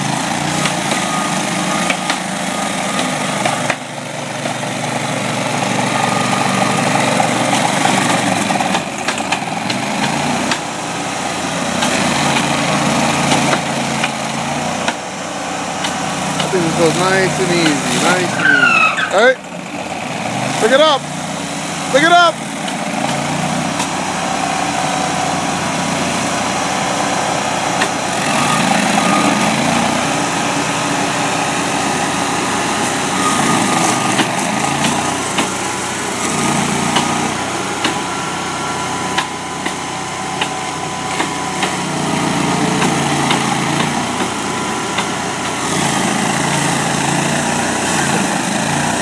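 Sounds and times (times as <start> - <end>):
stump grinder engine running: 0.0 - 49.0.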